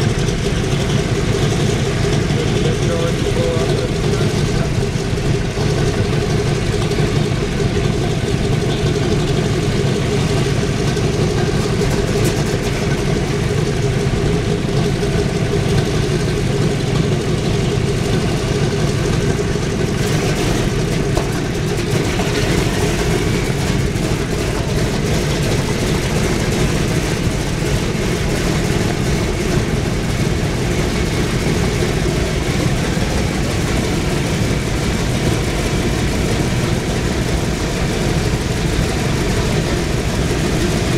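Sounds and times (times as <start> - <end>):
radial aircraft engines idling: 0.0 - 40.9.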